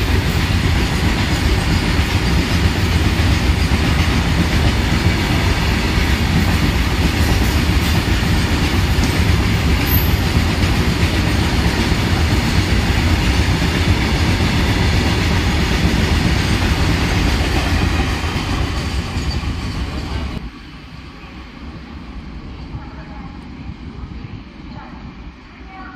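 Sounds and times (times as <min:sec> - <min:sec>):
freight train wheels rumbling: 0:00.0 - 0:25.9.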